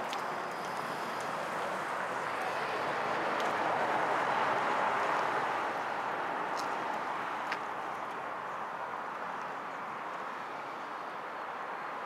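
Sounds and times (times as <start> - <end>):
outdoor city rushing noise: 0.0 - 12.0.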